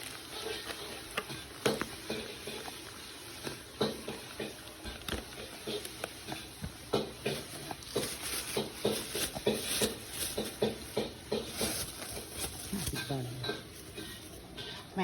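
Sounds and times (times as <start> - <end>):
kitchen utensils and dishes clinking: 0.0 - 15.0.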